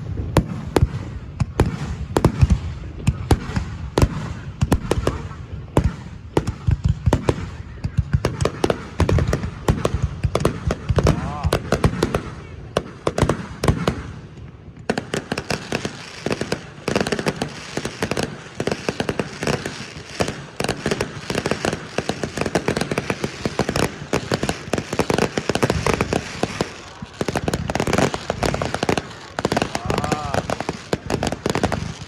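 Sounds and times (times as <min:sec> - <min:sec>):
fireworks crackling: 0:00.0 - 0:32.0.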